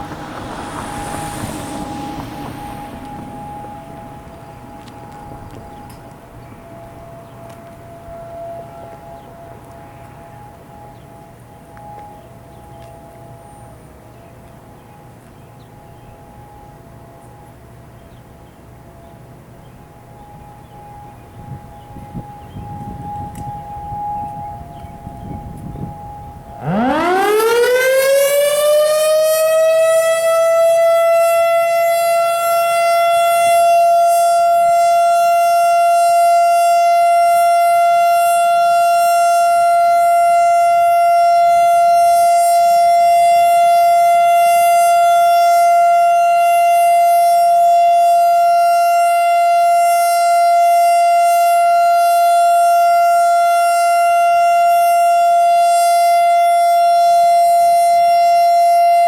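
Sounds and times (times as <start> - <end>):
steady warning siren tone: 0.0 - 59.0.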